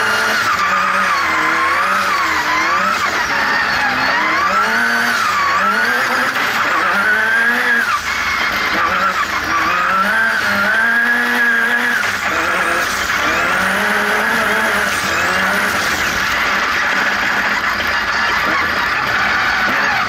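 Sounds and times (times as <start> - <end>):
turbocharged engine revving: 0.0 - 20.0.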